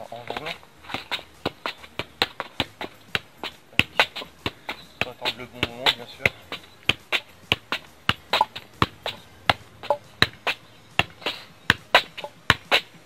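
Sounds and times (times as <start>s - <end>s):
shoe tapping a football: 0.0s - 13.0s.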